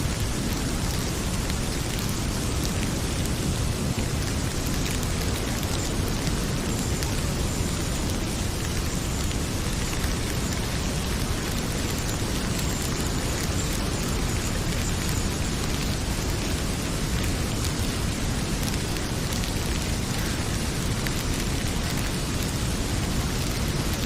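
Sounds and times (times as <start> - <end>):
heavy rain pouring: 0.0 - 24.0
wood fire crackling faintly: 0.0 - 24.0.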